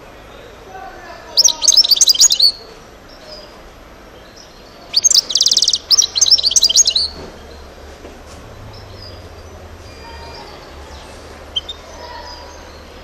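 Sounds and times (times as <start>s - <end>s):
goldfinch singing: 1.1s - 7.8s, 8.7s - 13.0s.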